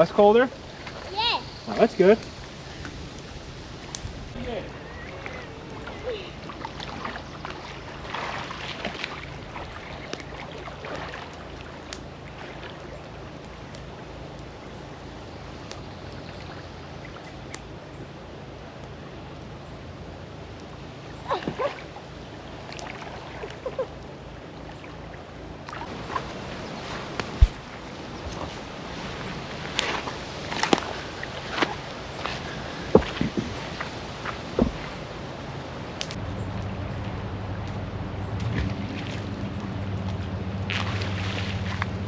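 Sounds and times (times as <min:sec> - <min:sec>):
water sloshing and splashing: 0:00.4 - 0:19.0, 0:20.4 - 0:36.2, 0:38.4 - 0:42.0.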